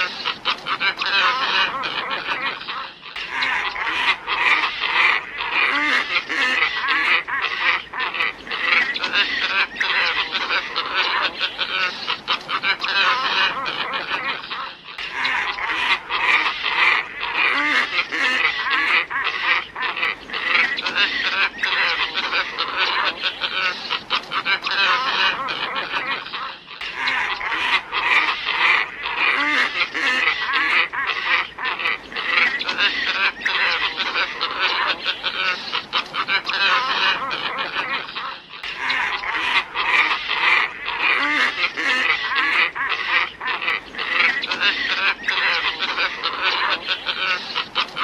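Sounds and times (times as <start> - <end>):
ibis flock grunting calls: 0.0 - 48.0.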